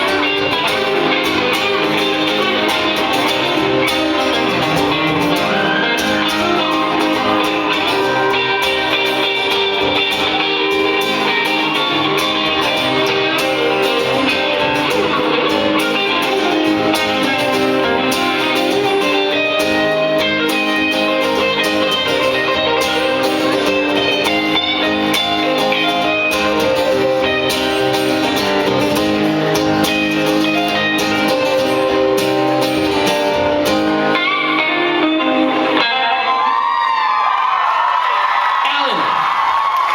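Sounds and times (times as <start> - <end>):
live band playing: 0.0 - 36.7
guitar: 0.0 - 39.9.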